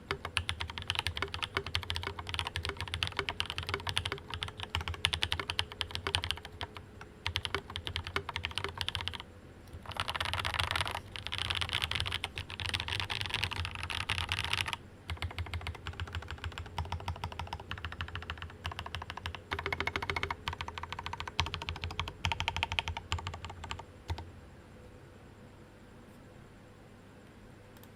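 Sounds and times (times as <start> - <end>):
fast typing on mechanical keyboard: 0.0 - 9.2, 9.8 - 24.2.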